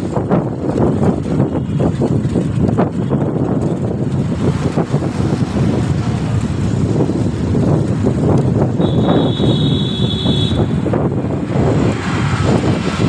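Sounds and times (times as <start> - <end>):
skate wheels rolling on asphalt: 0.0 - 13.0
wind buffeting microphone: 0.0 - 13.0.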